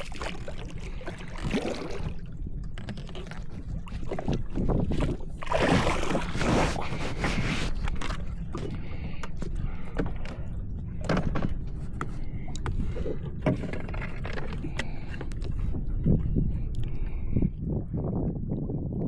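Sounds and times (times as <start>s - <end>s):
water sloshing and splashing: 0.0s - 17.6s
steady low rumble: 0.0s - 19.0s.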